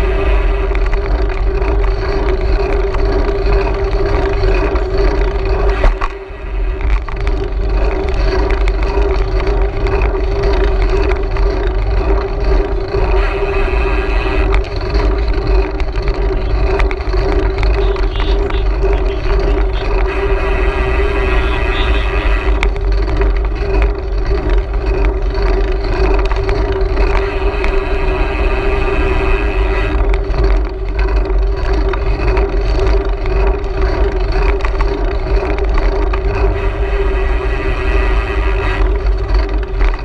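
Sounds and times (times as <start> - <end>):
steady droning hum: 0.0 - 40.0
wind rumbling on microphone: 0.0 - 40.0.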